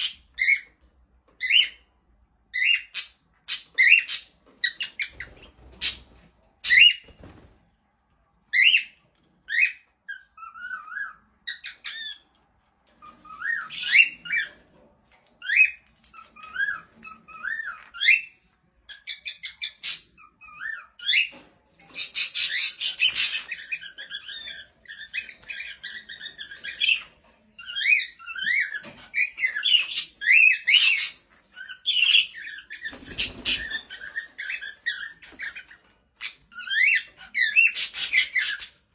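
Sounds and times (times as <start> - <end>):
birds chirping and squawking: 0.0 - 7.6, 8.4 - 38.9.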